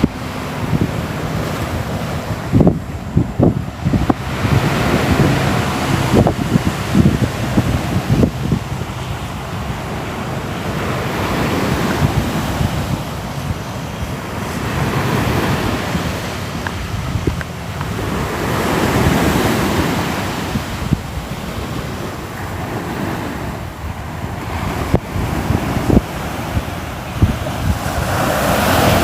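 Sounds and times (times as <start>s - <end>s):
ocean waves washing in: 0.0s - 29.0s.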